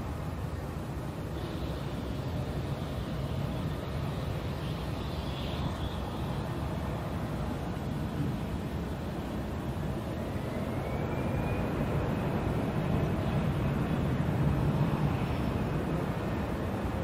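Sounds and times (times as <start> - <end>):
faint high whine: 0.0 - 17.0
jet engines rumbling: 0.0 - 17.0.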